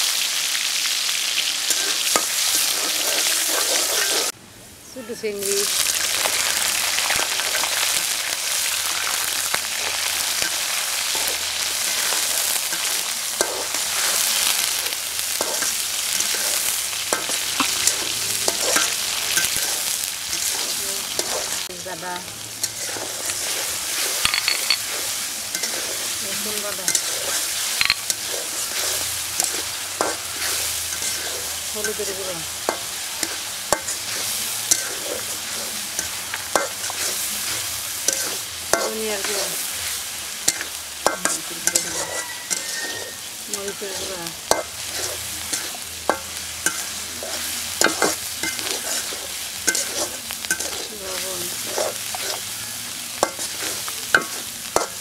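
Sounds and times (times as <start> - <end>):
prawns sizzling in hot oil: 0.0 - 4.4, 5.0 - 55.0
metal spatula scraping pan: 1.7 - 4.4, 9.6 - 21.7, 22.6 - 55.0.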